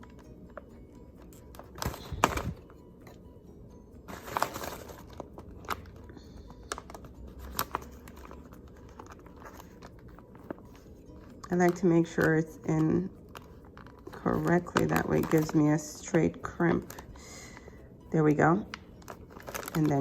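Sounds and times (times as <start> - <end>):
paper bag crinkling and rustling: 1.2 - 2.8, 4.1 - 17.7, 18.3 - 20.0.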